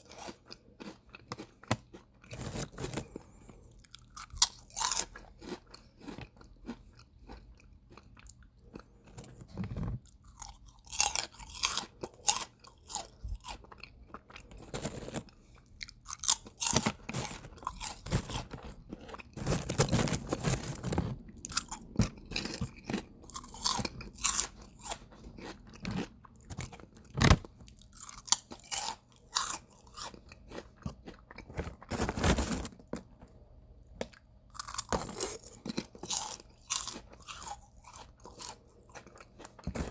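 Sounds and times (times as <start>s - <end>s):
person chewing crisp chips: 0.0s - 39.9s.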